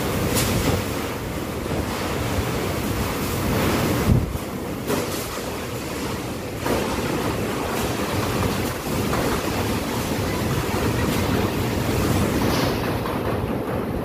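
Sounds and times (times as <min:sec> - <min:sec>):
strong gusting wind: 0:00.0 - 0:14.0
wind buffeting microphone: 0:00.0 - 0:14.0.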